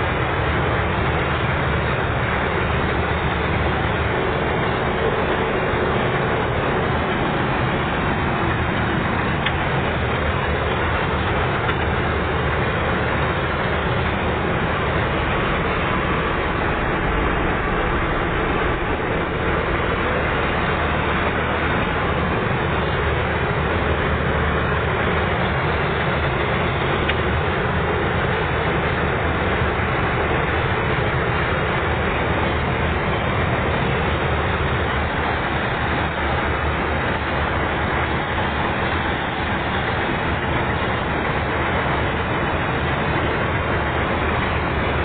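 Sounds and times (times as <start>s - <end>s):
combine harvester droning: 0.0s - 45.0s.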